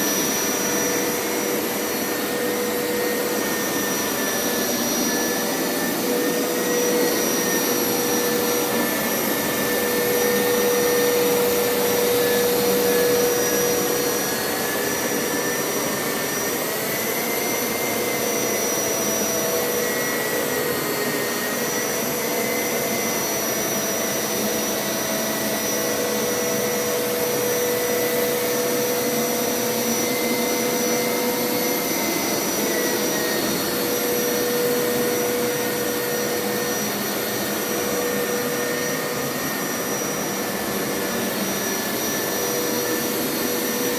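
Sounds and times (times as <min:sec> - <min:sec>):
carpet washer running: 0:00.0 - 0:43.9.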